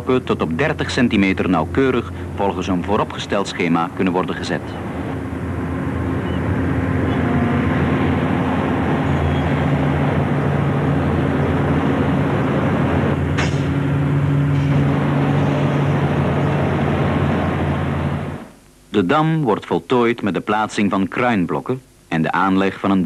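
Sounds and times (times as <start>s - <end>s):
diesel engine droning: 0.0s - 18.6s.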